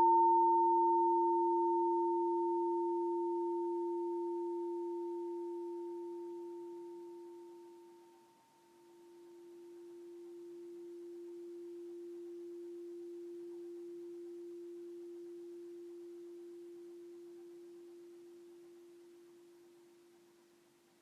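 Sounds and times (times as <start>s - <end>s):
singing bowl tone: 0.0s - 20.5s.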